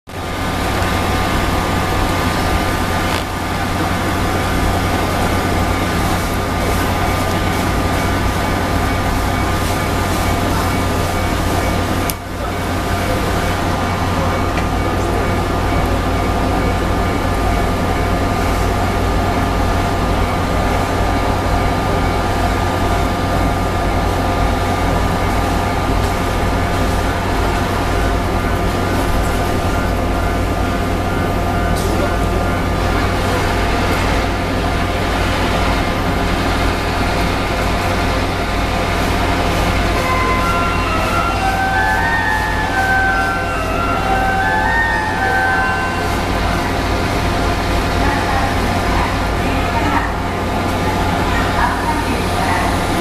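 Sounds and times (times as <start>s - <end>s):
electric trains humming: 0.1s - 53.0s.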